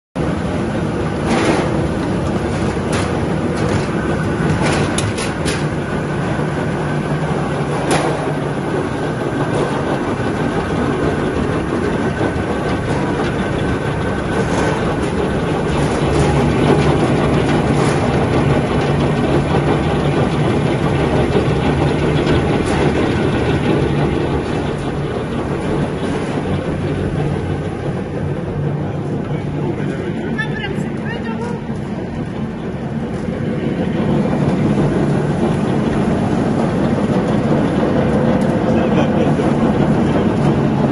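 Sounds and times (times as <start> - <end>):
machine motor hum: 0.2 - 40.9.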